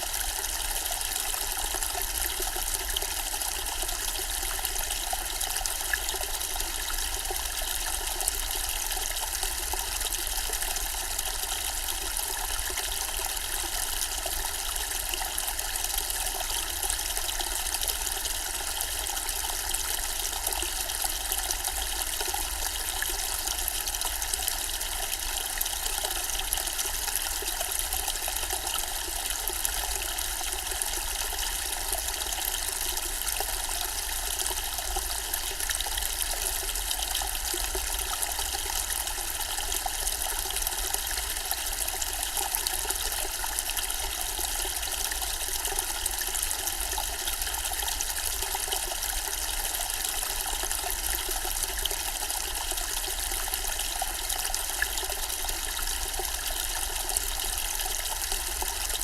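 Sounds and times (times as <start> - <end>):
water fountain trickling and splashing: 0.0 - 59.0.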